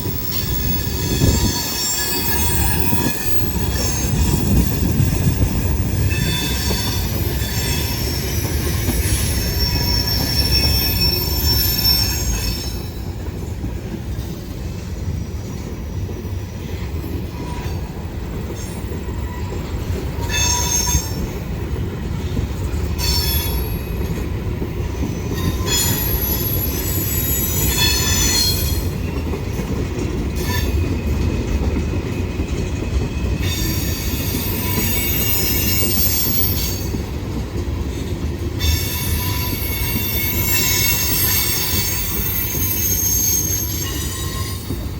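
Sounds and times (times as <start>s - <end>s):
train wheels squealing: 0.0s - 14.7s, 16.3s - 44.9s
freight train rumble: 0.0s - 44.9s.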